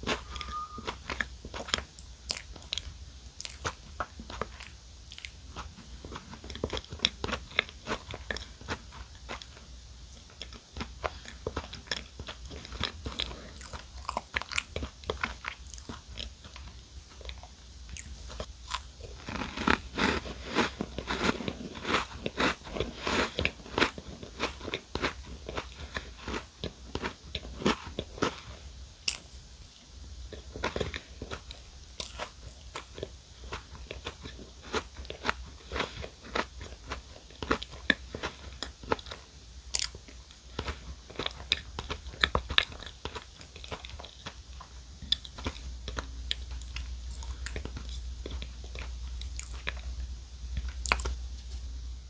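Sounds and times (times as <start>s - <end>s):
crunchy chewing: 0.0s - 29.4s, 30.3s - 51.7s.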